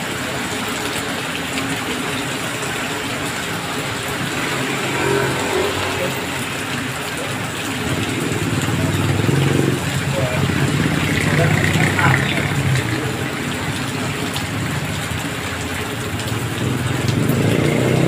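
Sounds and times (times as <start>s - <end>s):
heavy rain on road: 0.0s - 18.0s
vehicles passing on wet road: 0.0s - 18.0s.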